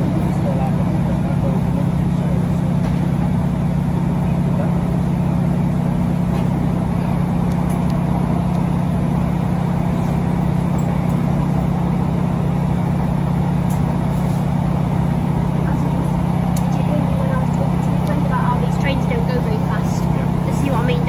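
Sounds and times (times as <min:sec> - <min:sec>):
train diesel engine drone: 0:00.0 - 0:21.0.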